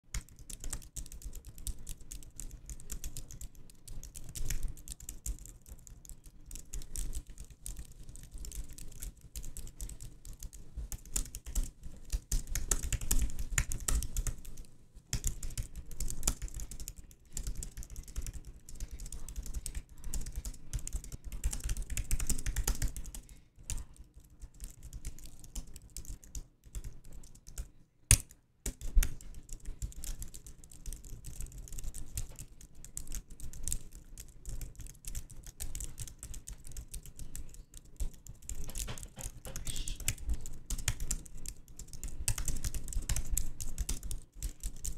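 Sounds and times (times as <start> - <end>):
keyboard typing clicks: 0.1 - 44.9.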